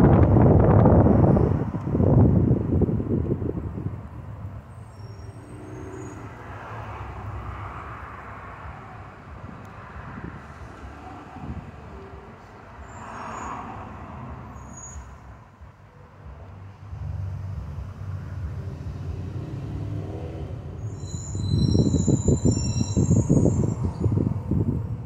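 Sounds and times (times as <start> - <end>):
car tyre and engine rumble: 0.0 - 25.0.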